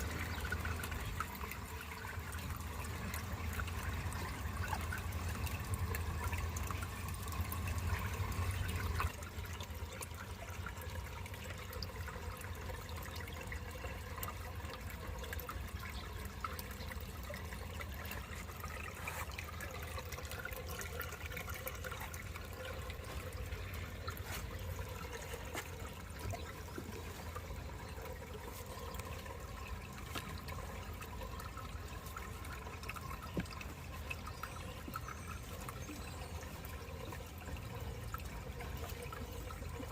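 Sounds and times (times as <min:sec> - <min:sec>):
water trickling in aquarium: 0:00.0 - 0:39.9.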